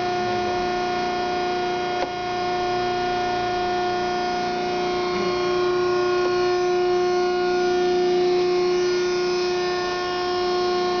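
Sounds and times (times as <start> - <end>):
hydraulic pump whine: 0.0 - 11.0.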